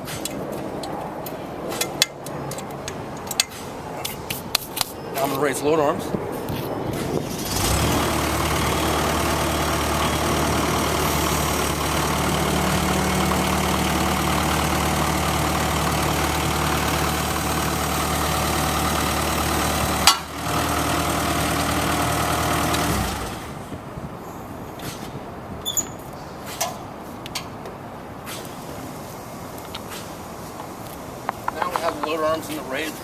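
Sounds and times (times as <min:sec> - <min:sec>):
diesel engine and hydraulics running: 0:00.0 - 0:33.0.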